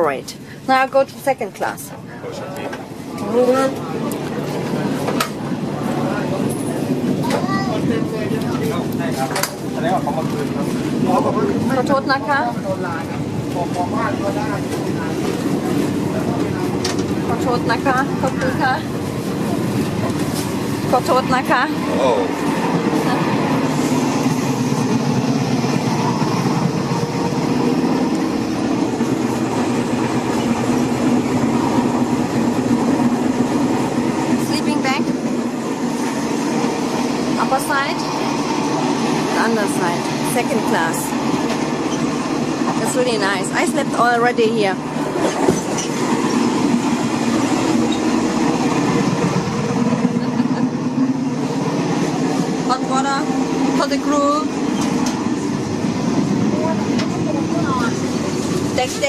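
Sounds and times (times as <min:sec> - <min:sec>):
train rumble and rattle: 0:00.0 - 0:59.0.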